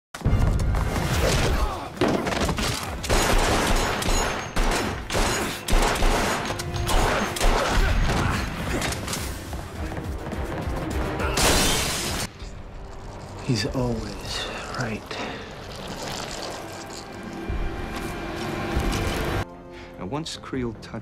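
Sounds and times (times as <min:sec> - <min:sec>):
dramatic background music: 0:00.2 - 0:21.0.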